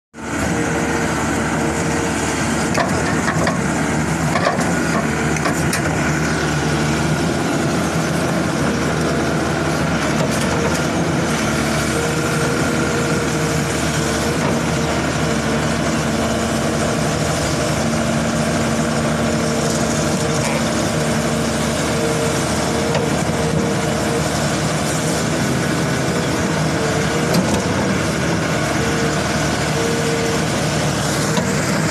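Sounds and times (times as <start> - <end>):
excavator diesel engine droning: 0.2 - 31.9.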